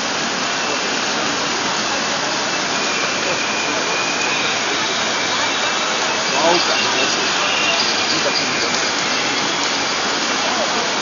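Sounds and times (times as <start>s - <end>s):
crowd walking in rain: 0.0s - 11.0s
faint voices: 0.0s - 11.0s.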